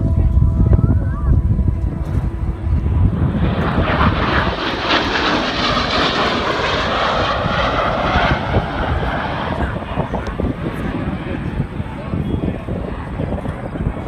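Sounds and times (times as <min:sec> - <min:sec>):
jet whine dropping in pitch: 0:00.0 - 0:14.0
fighter jet flying past: 0:01.6 - 0:14.0.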